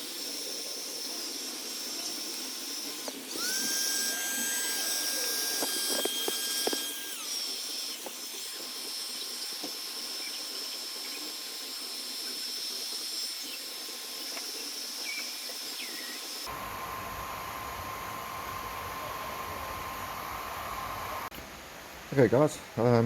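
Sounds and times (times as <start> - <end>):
electric air tool hissing: 0.0 - 21.3
thin high whine: 0.0 - 21.3.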